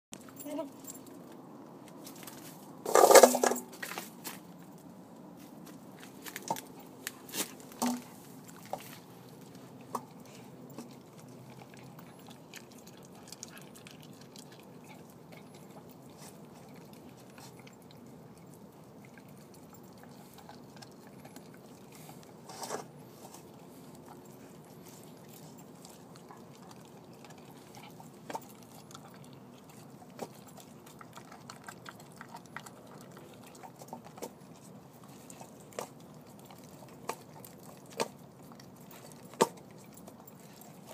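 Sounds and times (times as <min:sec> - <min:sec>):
dog chewing bone crunches: 0:05.5 - 0:40.9.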